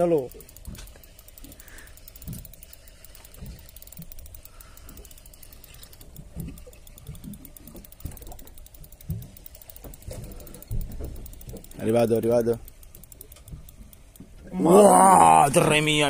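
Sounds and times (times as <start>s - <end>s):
fishing reel ratchet clicking: 0.0s - 16.0s.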